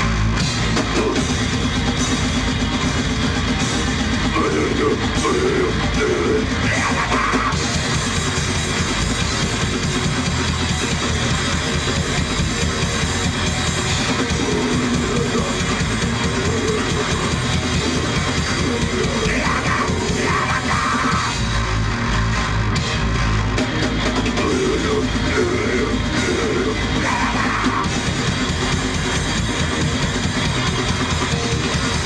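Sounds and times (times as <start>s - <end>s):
drum kit: 0.0s - 32.0s
electric guitar: 0.0s - 32.0s.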